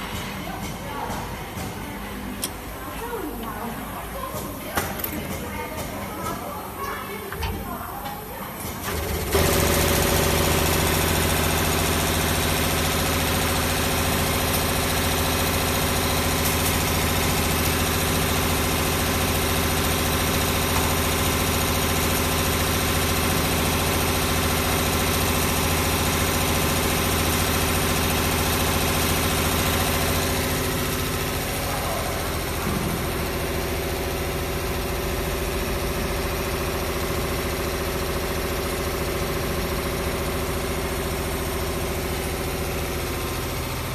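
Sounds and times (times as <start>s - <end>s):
winding machine mechanical hum: 0.0s - 43.9s.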